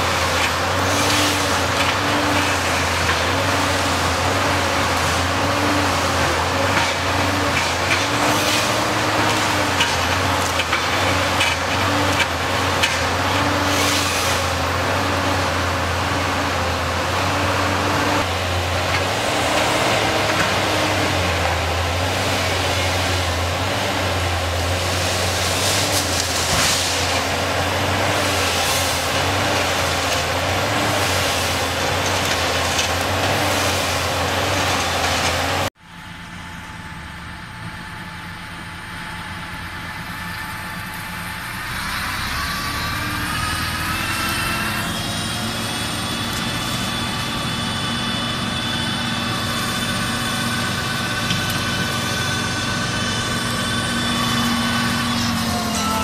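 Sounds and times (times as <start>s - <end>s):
flail mower whining: 0.0s - 56.0s
harvester engine running: 0.0s - 56.0s.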